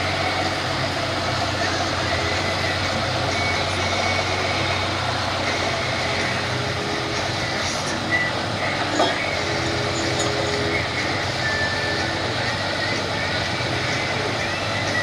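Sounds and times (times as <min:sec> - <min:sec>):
short high tones: 0:00.0 - 0:15.0
tractor diesel engine idling: 0:00.0 - 0:15.0.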